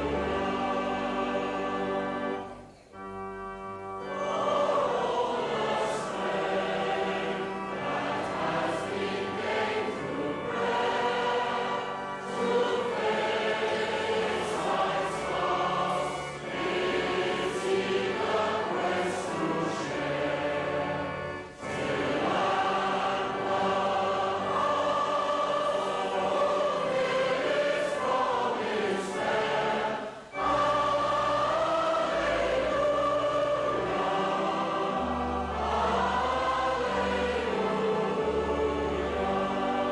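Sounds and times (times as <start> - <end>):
choir singing a hymn: 0.0 - 39.9
organ: 0.0 - 39.9.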